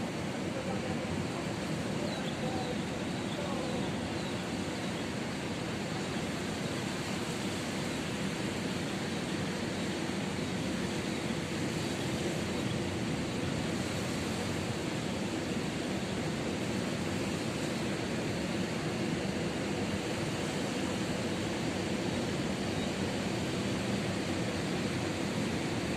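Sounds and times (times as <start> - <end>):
ocean surf: 0.0 - 25.9.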